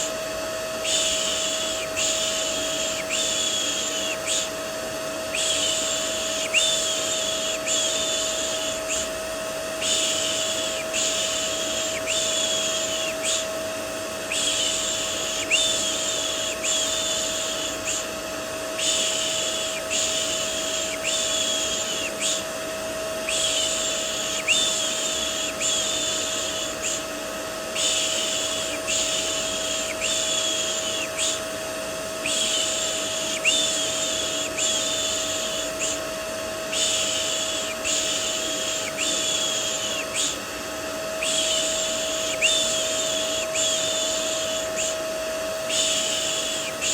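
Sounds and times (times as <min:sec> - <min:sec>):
vacuum cleaner motor hum: 0:00.0 - 0:46.9.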